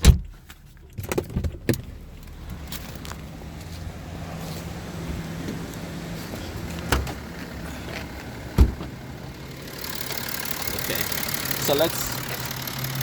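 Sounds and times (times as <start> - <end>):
diesel engine idling: 1.8 - 13.0.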